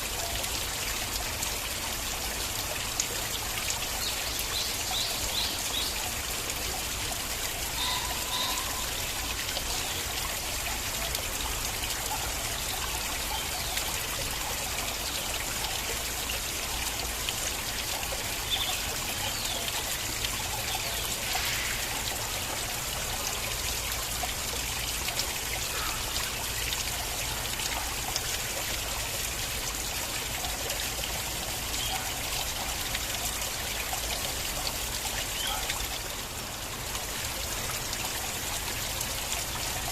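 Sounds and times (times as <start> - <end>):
stream water trickling: 0.0 - 39.9
water splashes and drips: 0.0 - 39.9.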